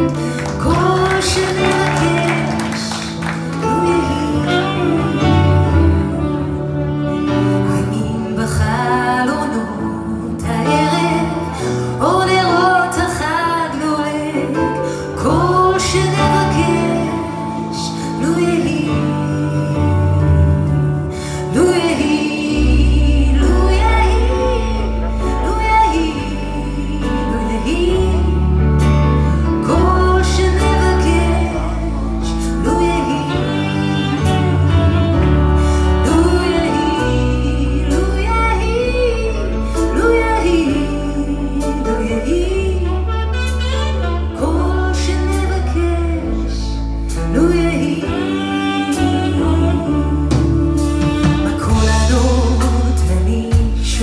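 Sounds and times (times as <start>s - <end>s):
sustained bass notes: 0.0s - 14.3s, 15.2s - 54.0s
saxophone: 0.0s - 54.0s
woman singing lead: 0.0s - 54.0s.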